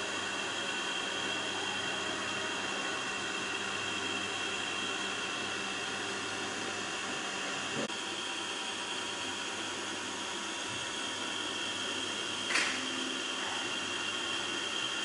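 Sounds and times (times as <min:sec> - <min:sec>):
high steady whine: 0:00.0 - 0:15.0
motor-driven disc whirring: 0:00.0 - 0:15.0.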